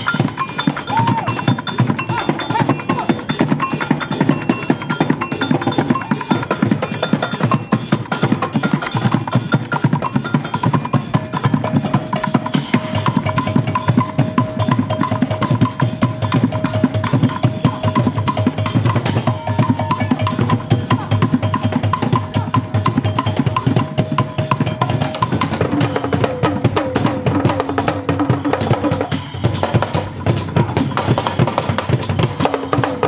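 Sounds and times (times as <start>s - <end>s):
cymbals: 0.0s - 33.0s
drumming on buckets and drums: 0.0s - 33.0s.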